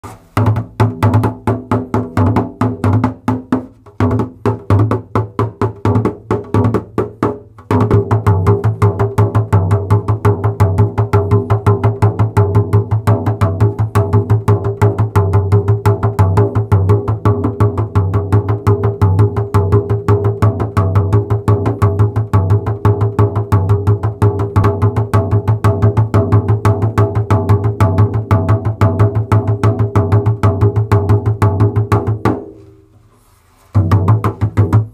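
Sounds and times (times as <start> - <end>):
frame drum played by hand: 0.0 - 34.9.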